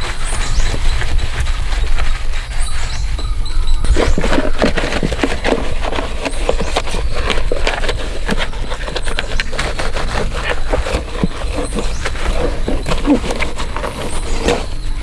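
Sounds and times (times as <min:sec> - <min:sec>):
sponge scrubbing plastic: 0:00.0 - 0:15.0.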